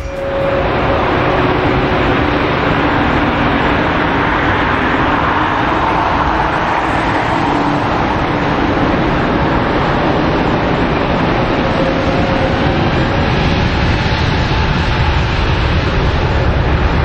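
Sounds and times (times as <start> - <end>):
faint droning tone: 0.0 - 17.0
jet engines roaring: 0.0 - 17.0.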